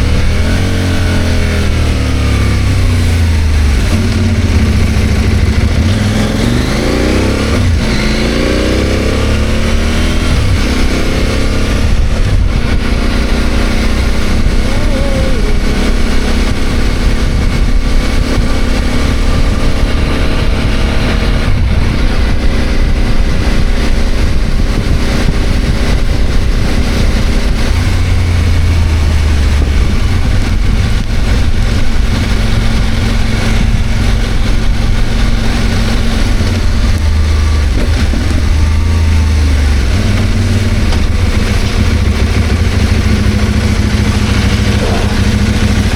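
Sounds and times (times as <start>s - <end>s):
low rumble of wind noise: 0.0s - 45.9s
motorcycle engine running: 0.0s - 45.9s.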